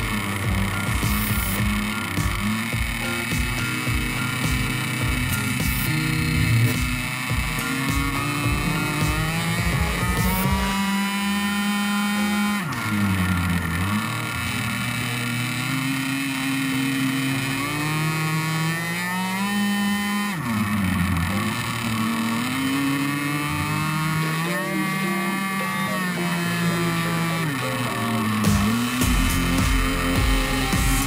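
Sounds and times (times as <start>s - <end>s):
two-stroke boat engine revving: 0.0s - 31.0s.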